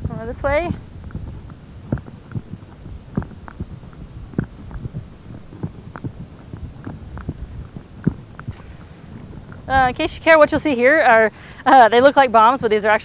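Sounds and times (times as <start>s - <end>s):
low rumble: 0.0s - 12.0s
footsteps on concrete: 0.4s - 11.3s.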